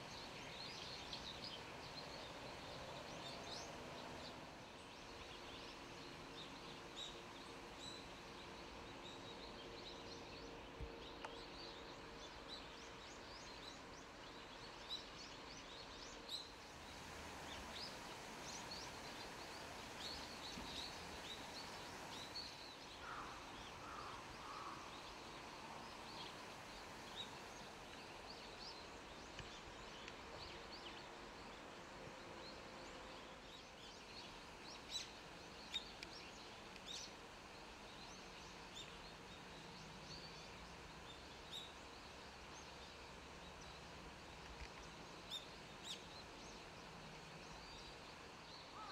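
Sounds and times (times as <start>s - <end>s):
steady background hiss: 0.0s - 48.9s.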